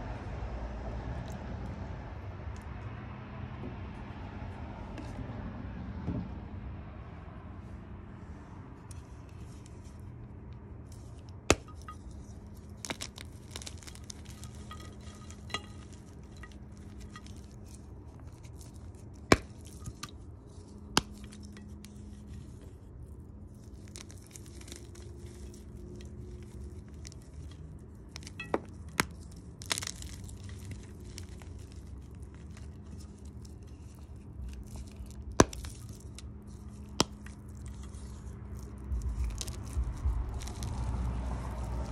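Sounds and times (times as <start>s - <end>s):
chalk crumbling and crunching: 8.3s - 41.9s.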